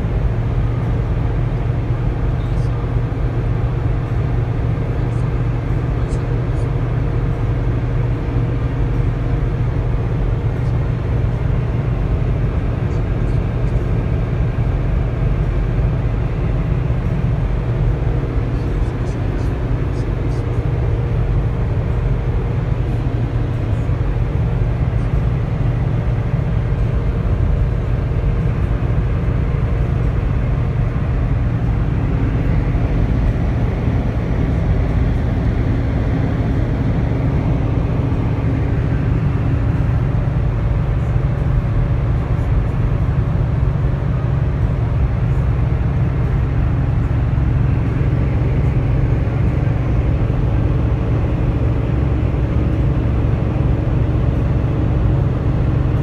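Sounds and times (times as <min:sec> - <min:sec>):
engine and tyre drone: 0:00.0 - 0:56.0
faint hum: 0:00.0 - 0:56.0.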